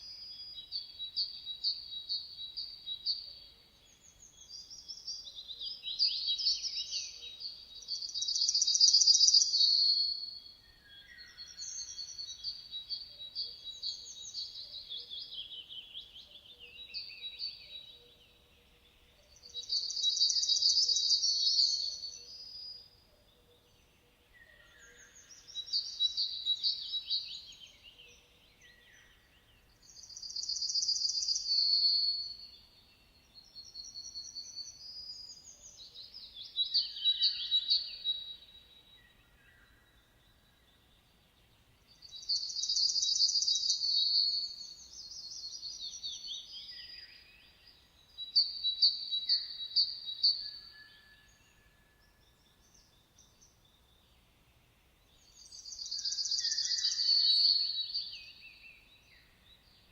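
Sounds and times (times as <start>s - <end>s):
songbirds singing trilled phrases: 0.0s - 59.9s.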